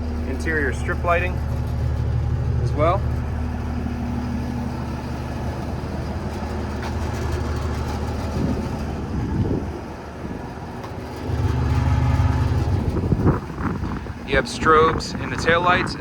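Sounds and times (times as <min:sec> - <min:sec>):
diesel truck idling: 0:00.0 - 0:16.0.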